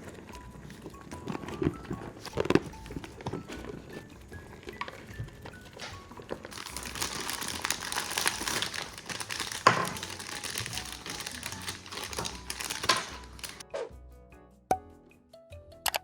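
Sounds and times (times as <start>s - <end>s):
wrapping crinkling: 0.0s - 13.6s
wrapping snapping: 0.0s - 13.6s.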